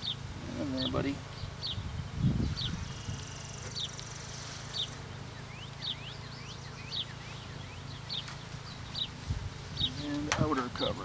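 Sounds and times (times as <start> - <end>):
bird chirping: 0.0 - 11.0
honeybees buzzing: 0.0 - 11.0.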